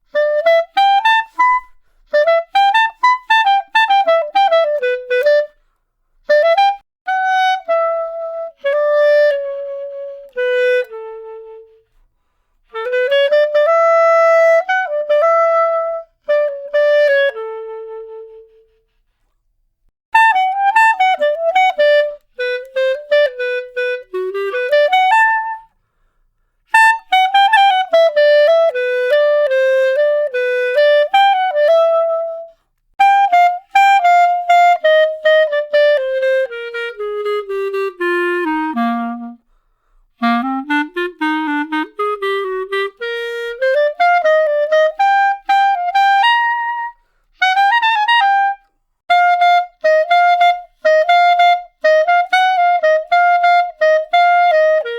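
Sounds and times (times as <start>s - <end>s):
solo clarinet melody: 0.0s - 19.4s, 20.1s - 54.9s.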